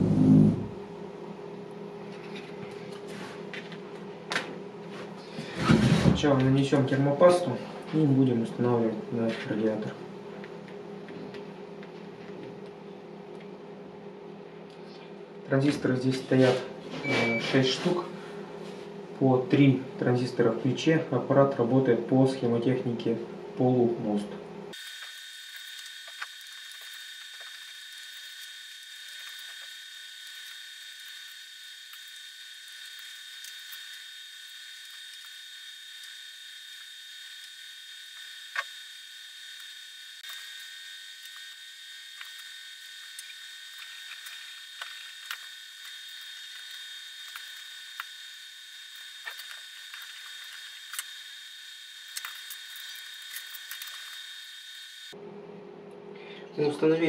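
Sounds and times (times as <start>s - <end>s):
high-pitched electrical whine: 0.0s - 55.5s.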